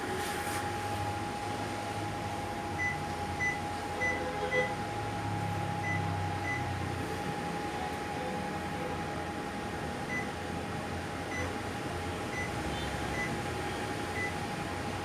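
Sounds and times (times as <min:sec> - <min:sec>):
steady hum with constant tone: 0:00.0 - 0:15.0.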